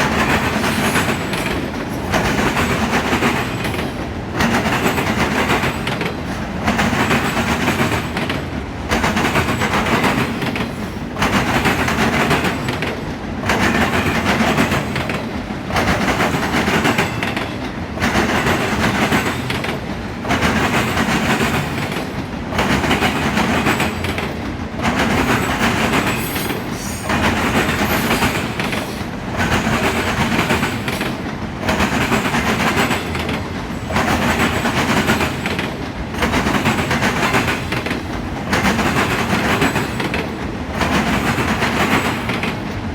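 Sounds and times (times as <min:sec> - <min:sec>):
wheels clacking over rails: 0:00.0 - 0:42.9.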